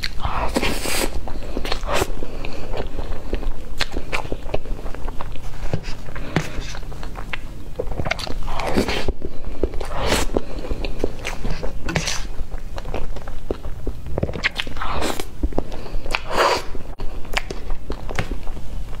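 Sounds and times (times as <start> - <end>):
wet chewing mouthfuls: 0.0 - 19.0.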